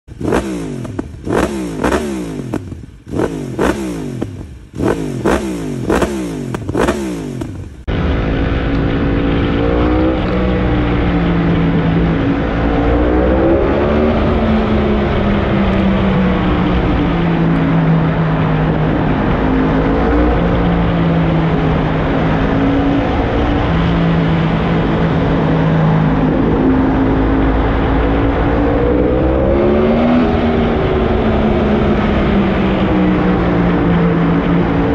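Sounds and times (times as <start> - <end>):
motorcycle engine accelerating: 0.0 - 34.9
motorcycle engine revving: 0.0 - 34.9.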